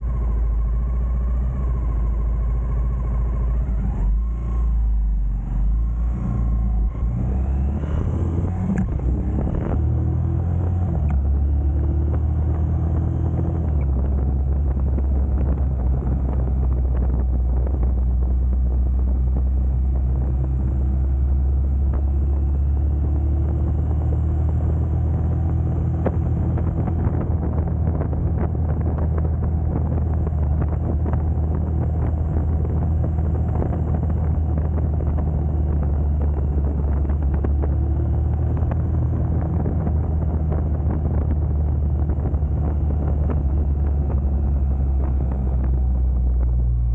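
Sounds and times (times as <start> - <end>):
motorcycle engine running: 6.5 - 46.9.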